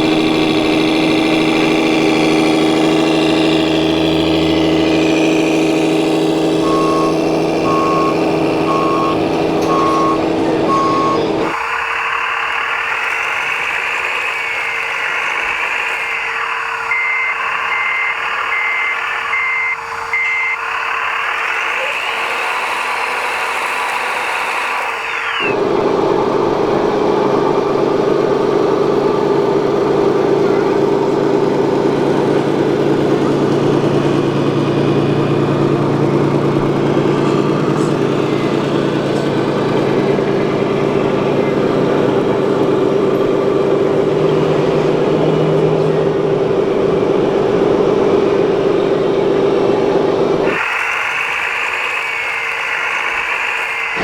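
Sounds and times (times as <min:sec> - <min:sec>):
reversing beeper: 0:00.0 - 0:13.0, 0:13.7 - 0:48.6
low engine-like drone: 0:00.0 - 0:54.0
whining electric drive and gearbox: 0:00.0 - 0:54.0.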